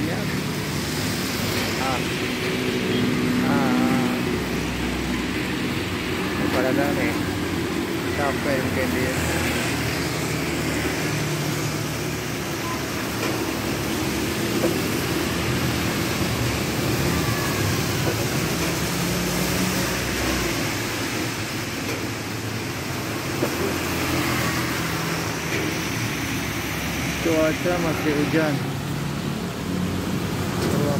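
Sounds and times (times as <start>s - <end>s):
rain on building: 0.0s - 30.9s.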